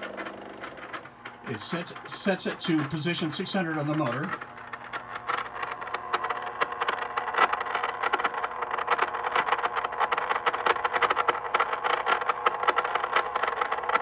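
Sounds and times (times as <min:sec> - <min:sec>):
stepper motor whirring and clicking: 0:00.0 - 0:14.0.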